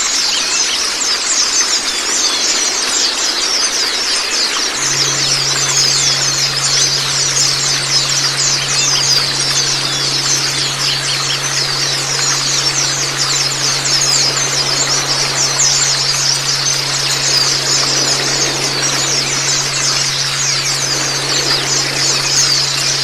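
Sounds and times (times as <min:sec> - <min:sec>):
birds chirping chorus: 0:01.6 - 0:23.0
water wash: 0:01.9 - 0:23.0
steady low hum: 0:04.6 - 0:23.0.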